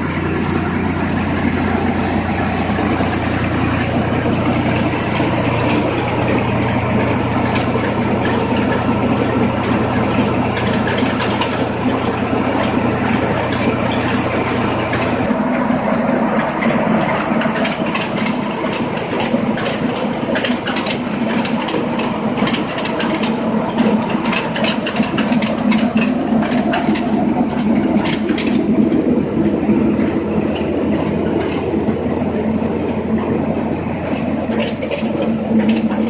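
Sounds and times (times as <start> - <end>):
rice mill ticks and rattles: 0.0 - 36.0
tractor engine running: 0.0 - 36.0.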